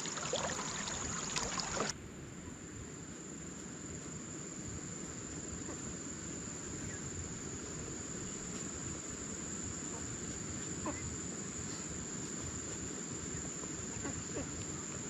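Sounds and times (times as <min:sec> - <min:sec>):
insects trilling: 0:00.0 - 0:01.9, 0:03.0 - 0:15.0.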